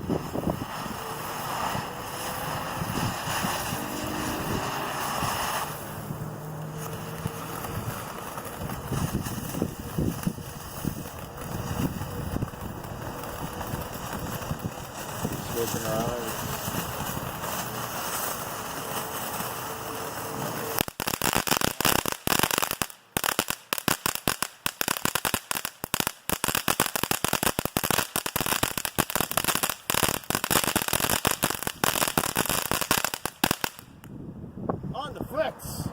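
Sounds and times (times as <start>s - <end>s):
firework fountain hissing: 0.0s - 34.0s
firework crackling pops: 0.0s - 34.2s.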